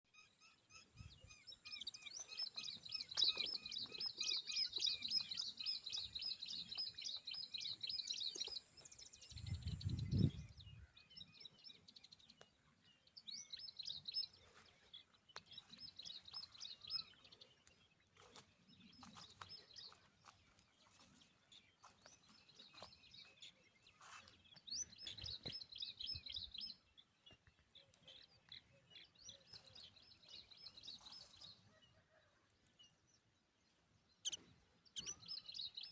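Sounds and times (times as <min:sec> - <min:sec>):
birds chirping rapidly: 0:00.2 - 0:32.1, 0:34.0 - 0:35.9.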